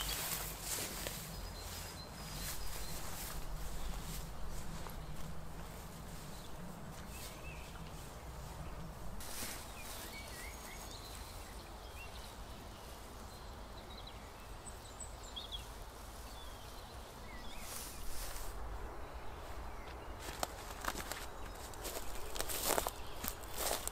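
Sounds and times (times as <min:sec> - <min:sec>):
rustling of grass and plants: 0:00.0 - 0:23.9
small birds chirping: 0:00.0 - 0:23.9.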